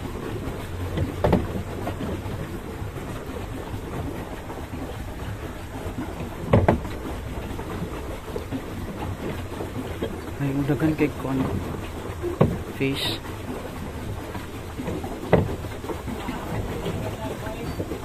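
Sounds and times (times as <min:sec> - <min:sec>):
knocks on boat: 0:00.0 - 0:18.0.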